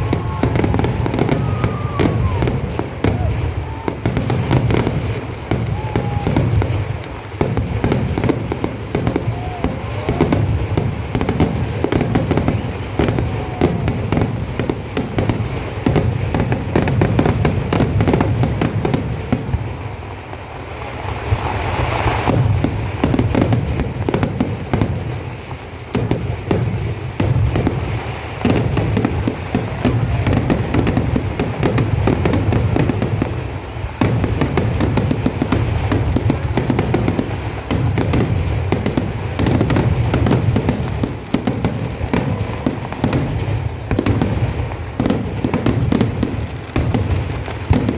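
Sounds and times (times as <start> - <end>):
fireworks barrage: 0.0 - 47.9.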